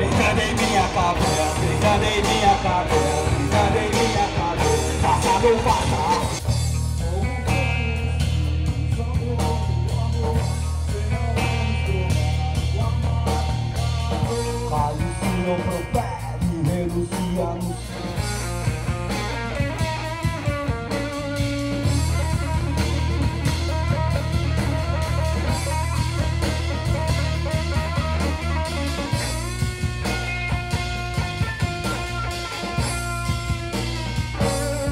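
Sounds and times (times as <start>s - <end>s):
drum kit: 0.0s - 34.9s
electric bass line: 0.0s - 34.9s
electric guitar: 0.0s - 34.9s.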